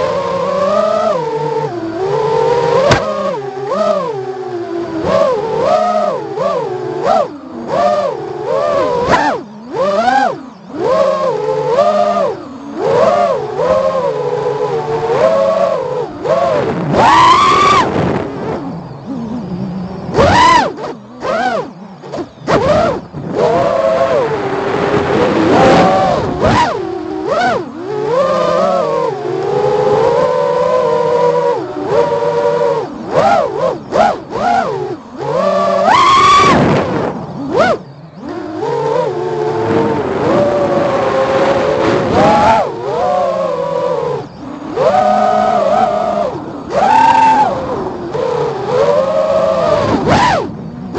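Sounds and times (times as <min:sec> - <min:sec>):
drone motors whining: 0:00.0 - 0:50.9.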